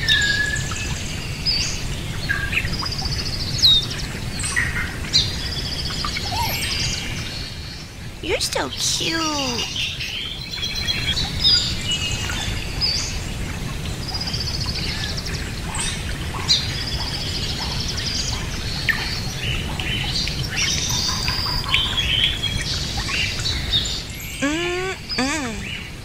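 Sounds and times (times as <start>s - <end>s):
low background noise: 0.6s - 26.0s.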